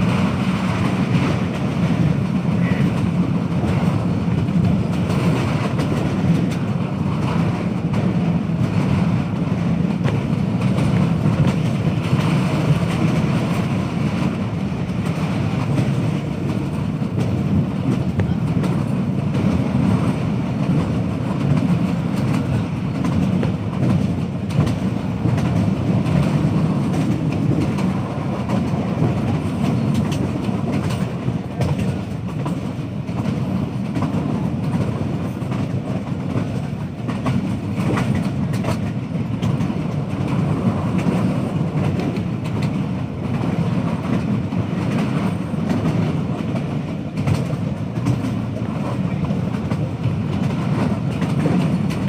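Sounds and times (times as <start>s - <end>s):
clicks of train wheels: 0.0s - 52.0s
train wheels rumbling on rails: 0.0s - 52.0s.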